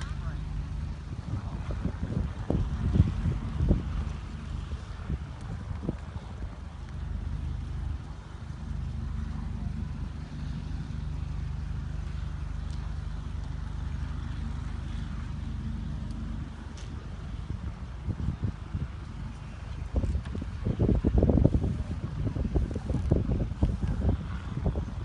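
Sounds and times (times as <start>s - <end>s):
low engine-like rumble: 0.0s - 25.0s.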